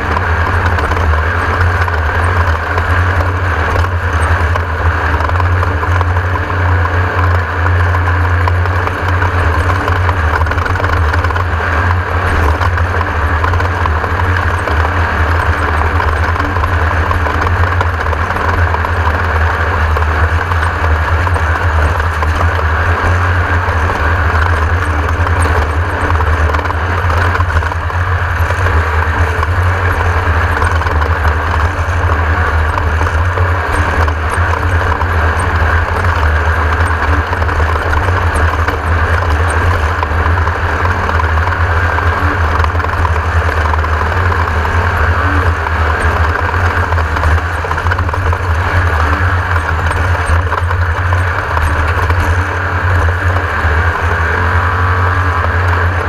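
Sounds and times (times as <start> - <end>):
race car engine running: 0.0 - 56.0.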